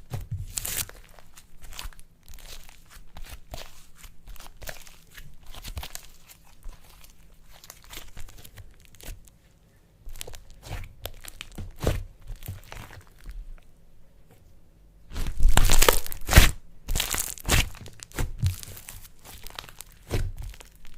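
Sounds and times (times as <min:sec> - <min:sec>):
slime crackling and crunching: 0:00.0 - 0:09.3, 0:10.1 - 0:13.4, 0:15.1 - 0:20.9.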